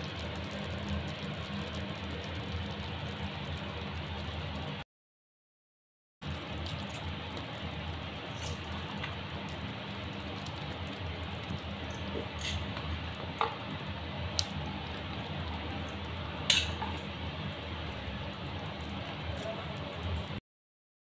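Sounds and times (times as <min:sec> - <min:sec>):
curry simmering hiss: 0:00.0 - 0:04.8, 0:06.2 - 0:20.4.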